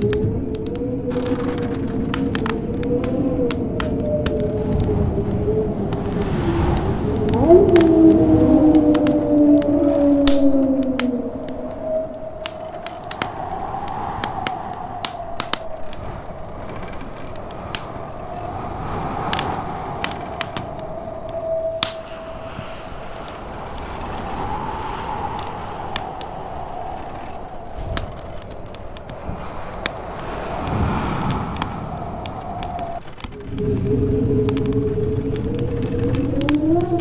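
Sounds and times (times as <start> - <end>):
howling wind: 0.0 - 37.0
wood fire crackling and popping: 0.0 - 37.0.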